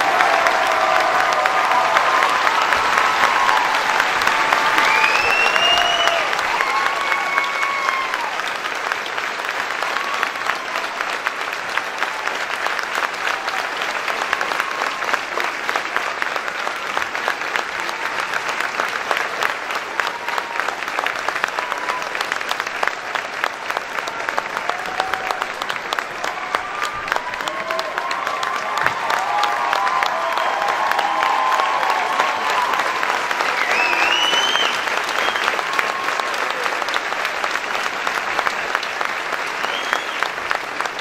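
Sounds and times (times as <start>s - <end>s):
large crowd applauding: 0.0s - 41.0s.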